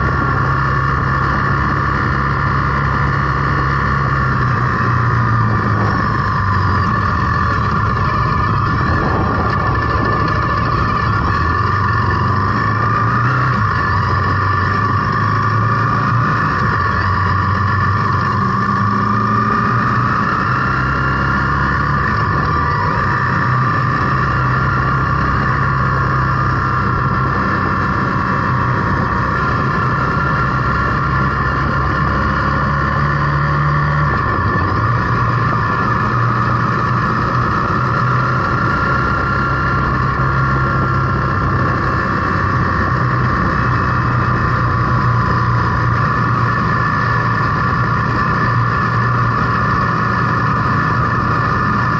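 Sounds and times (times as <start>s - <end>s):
motorcycle engine riding: 0.0s - 51.9s
wind noise on microphone: 0.0s - 51.9s.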